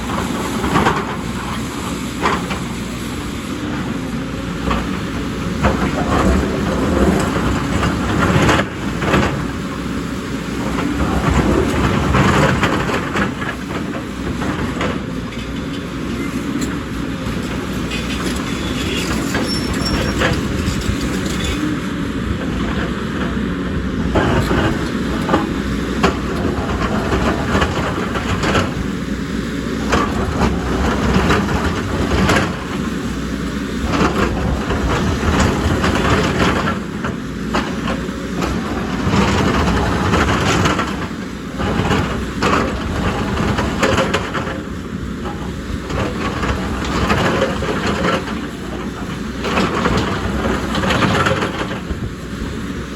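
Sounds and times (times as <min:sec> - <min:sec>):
diesel engine running: 0:00.0 - 0:52.9
excavator rattling and knocking: 0:00.0 - 0:52.9.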